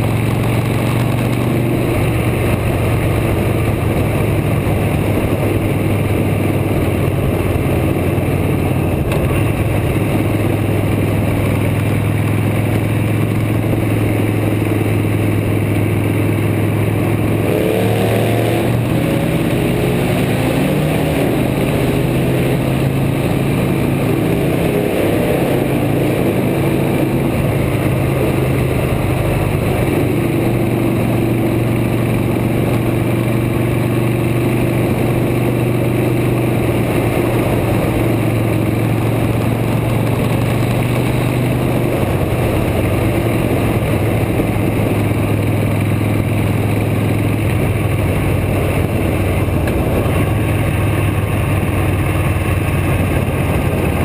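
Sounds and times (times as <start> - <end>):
motorcycle engine running: 0.0 - 54.0
wind and road rush: 0.0 - 54.0.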